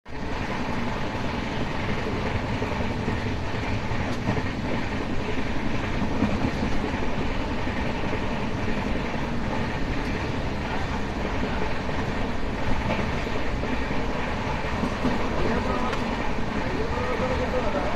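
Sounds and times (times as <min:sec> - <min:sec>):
train wheels rumbling on rail: 0:00.1 - 0:17.9.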